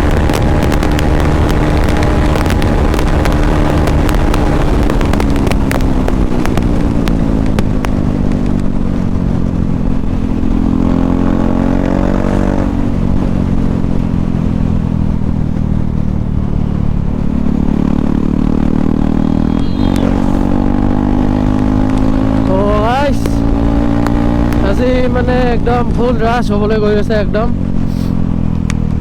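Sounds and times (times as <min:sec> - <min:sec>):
loud motorcycle engine: 0:00.0 - 0:29.0.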